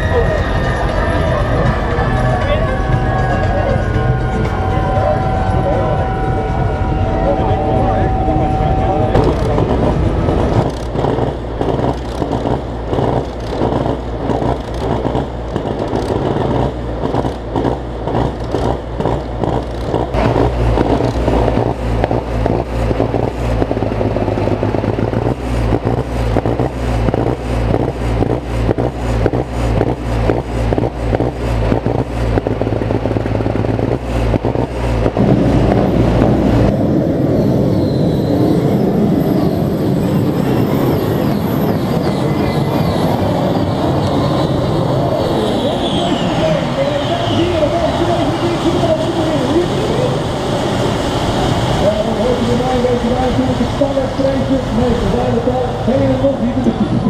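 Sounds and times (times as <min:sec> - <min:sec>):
loud pulsing truck engine: 0:00.0 - 0:57.0.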